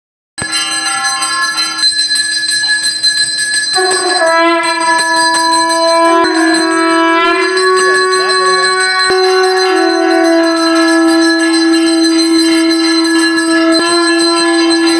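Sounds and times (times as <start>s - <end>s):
sustained pitched tone: 0.4s - 14.9s
temple bells ringing rapidly: 0.4s - 14.9s.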